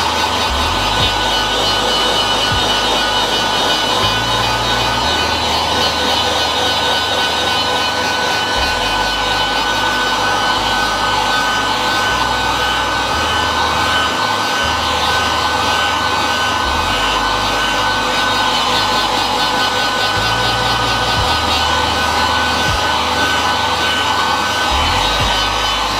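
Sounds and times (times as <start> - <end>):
heat gun fan hissing and whining: 0.0 - 25.9.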